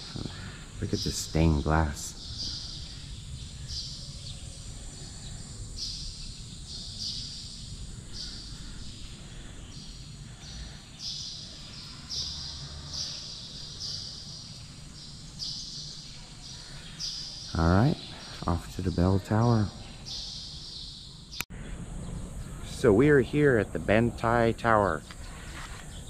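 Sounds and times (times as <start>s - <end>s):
high chirping calls: 0.0s - 26.0s.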